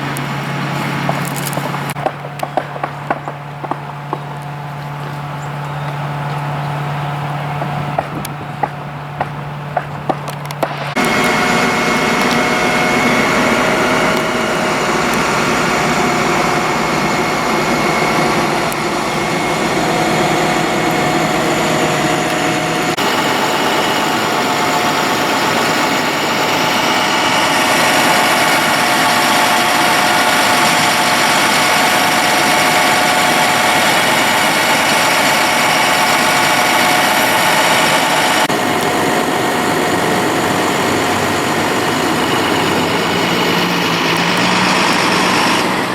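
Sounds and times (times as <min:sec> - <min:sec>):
powered cleanup equipment running: 0:00.0 - 0:45.9.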